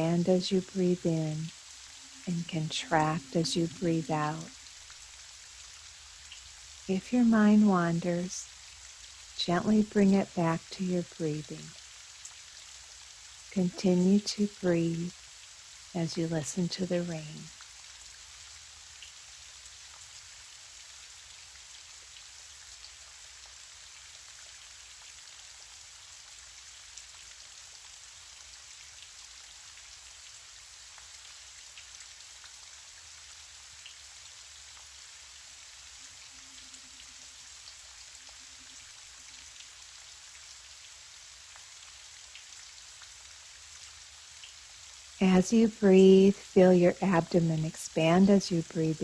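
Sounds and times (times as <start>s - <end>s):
gentle rain falling: 0.0s - 49.0s
faint raindrop ticks: 3.2s - 45.8s.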